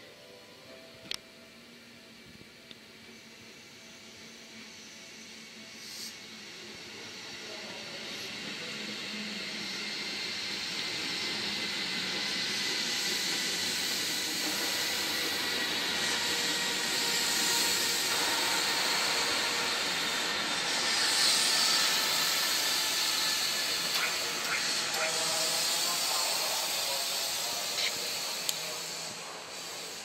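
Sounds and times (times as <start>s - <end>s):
train wheels rushing on rail: 3.0s - 30.0s.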